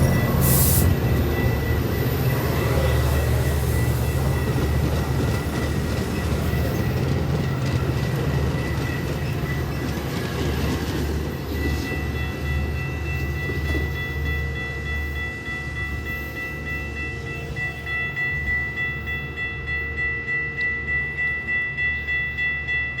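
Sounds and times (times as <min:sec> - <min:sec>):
train high-pitched whine: 0:00.0 - 0:23.0
train low rumble: 0:00.0 - 0:23.0.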